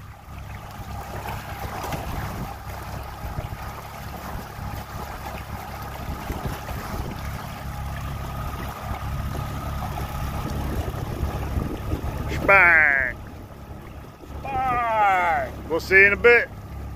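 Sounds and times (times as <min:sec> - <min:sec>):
wind buffeting microphone: 0:00.0 - 0:15.9
outboard motor running: 0:00.0 - 0:16.9
water rushing along hull: 0:00.0 - 0:16.9.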